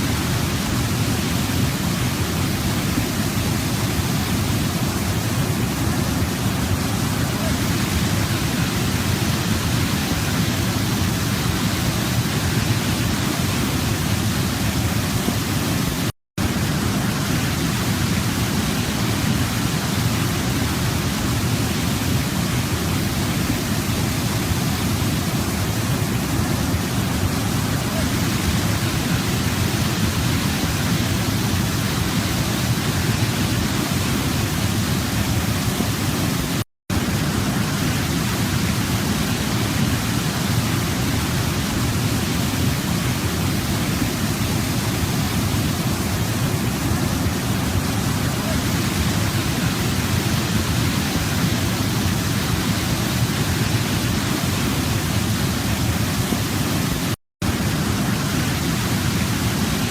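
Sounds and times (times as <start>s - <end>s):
waterfall roar: 0.0s - 59.9s.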